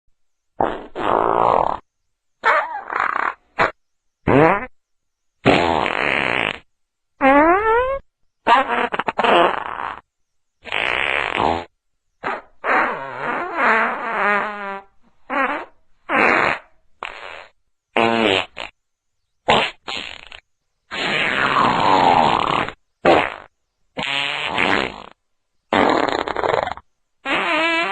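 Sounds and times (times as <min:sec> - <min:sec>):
fart sound effects: 0:00.6 - 0:01.8, 0:02.4 - 0:04.7, 0:05.4 - 0:10.0, 0:10.6 - 0:18.8, 0:19.5 - 0:27.9.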